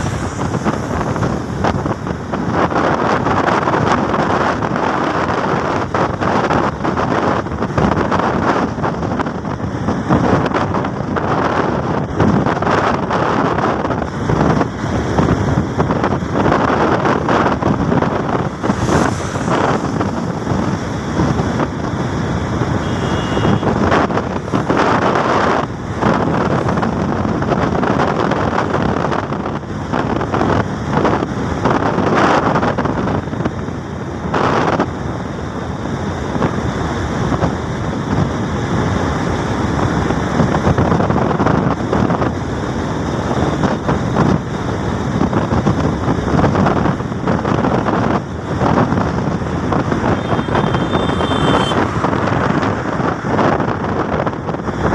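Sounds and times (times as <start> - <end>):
vehicle engine and tyre noise: 0.0 - 54.9
wind buffeting microphone: 0.0 - 54.9.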